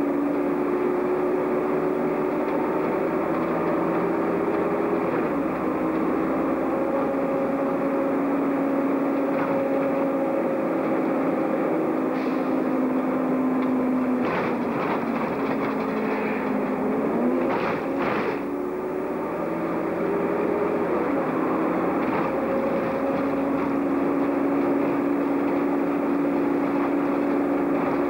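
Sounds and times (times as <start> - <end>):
bus engine whine: 0.0 - 28.0.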